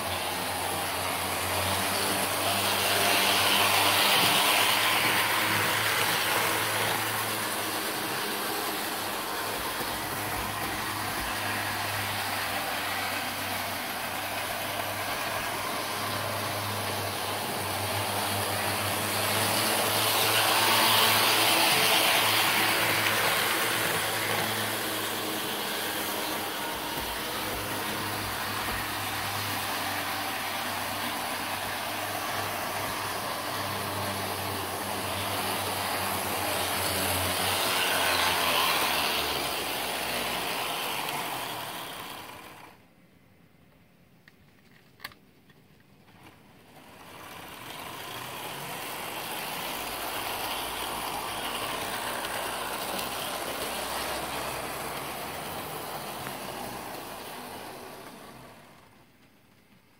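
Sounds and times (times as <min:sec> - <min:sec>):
model trains running on track: 0:00.0 - 0:43.0, 0:46.1 - 0:59.9.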